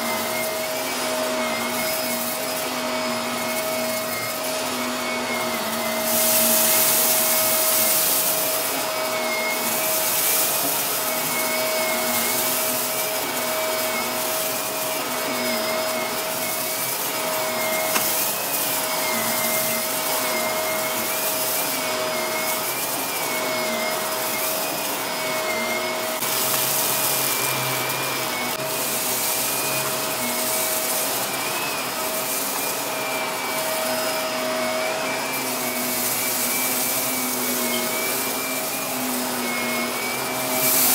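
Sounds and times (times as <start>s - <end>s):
vacuum cleaner on carpet: 0.0s - 40.9s.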